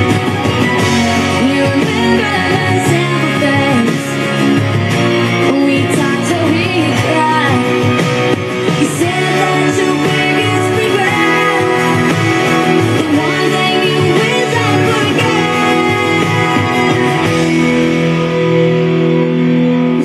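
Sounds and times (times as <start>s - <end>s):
pop-rock song with singing: 0.0s - 20.0s.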